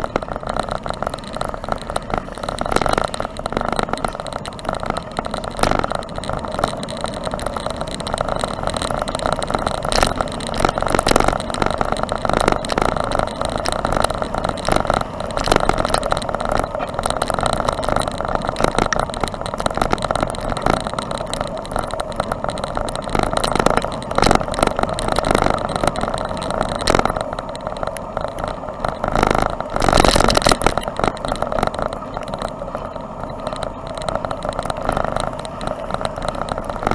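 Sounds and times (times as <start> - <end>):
bicycle knocks and rattles: 0.0 - 36.9
bicycle road noise: 0.0 - 36.9.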